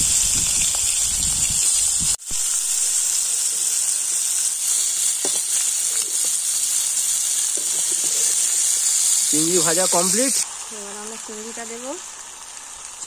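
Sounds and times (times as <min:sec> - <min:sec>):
prawns sizzling in hot oil: 0:00.0 - 0:13.0.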